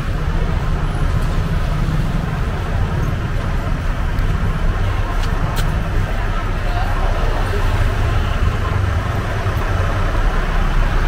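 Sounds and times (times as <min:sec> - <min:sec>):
car engines and tyres passing: 0:00.0 - 0:11.0.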